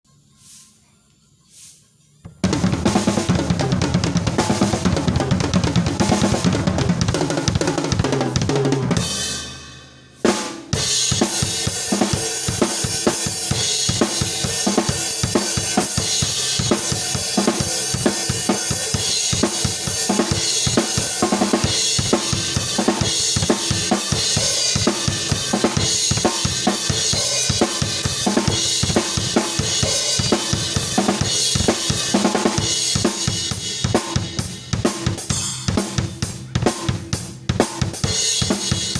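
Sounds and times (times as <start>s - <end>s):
drum kit playing: 1.5s - 38.9s.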